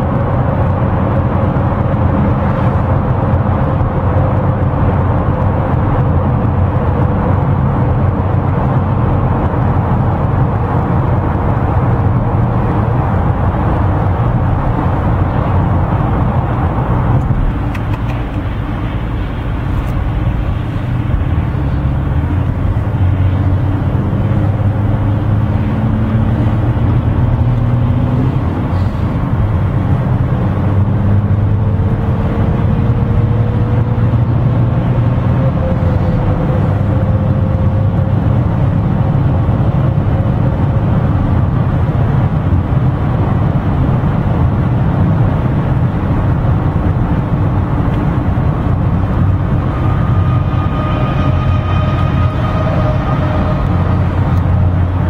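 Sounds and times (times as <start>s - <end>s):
car engine and tyre noise: 0.0s - 55.0s.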